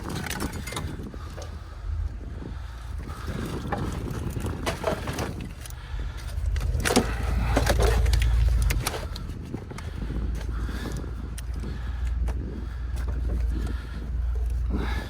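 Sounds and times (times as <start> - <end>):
vehicle engine rumbling: 0.0 - 15.0
clunks and knocks: 2.8 - 15.0.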